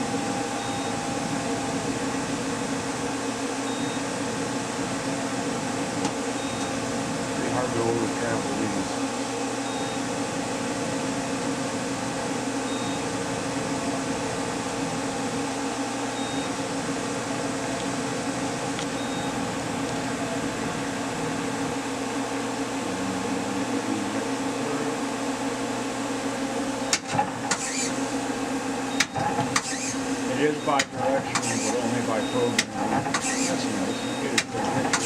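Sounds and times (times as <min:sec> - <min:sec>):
lathe machine hum: 0:00.0 - 0:35.0.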